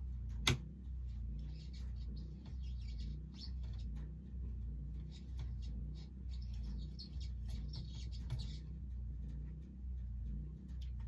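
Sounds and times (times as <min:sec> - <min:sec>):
pulsing low hum: 0:00.0 - 0:11.0.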